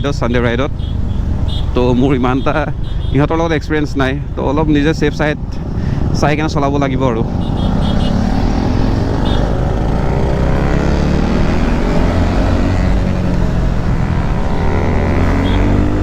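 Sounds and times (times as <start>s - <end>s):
motorcycle engines accelerating: 0.0s - 16.0s.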